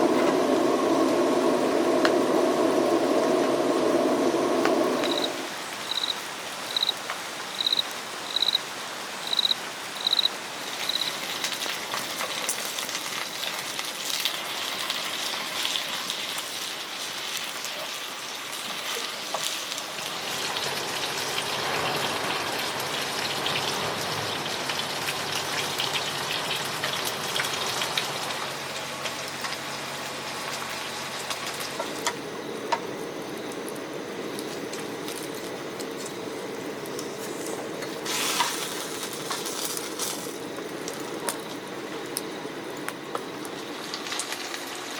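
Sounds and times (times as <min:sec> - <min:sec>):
rain falling on a tent: 0:00.0 - 0:32.1, 0:33.5 - 0:44.9.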